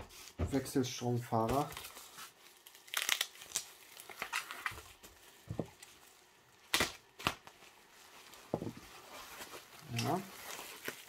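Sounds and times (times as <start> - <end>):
bubble wrap crinkling: 1.3 - 11.0.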